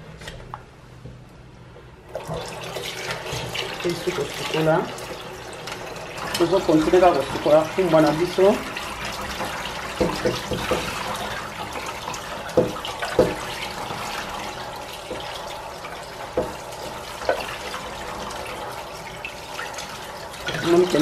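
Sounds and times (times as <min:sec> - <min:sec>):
tap water splashing into sink: 0:02.1 - 0:21.0.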